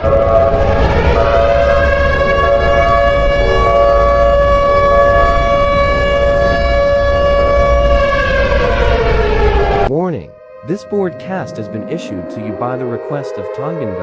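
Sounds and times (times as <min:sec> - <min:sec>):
emergency siren chord: 0:00.0 - 0:14.0.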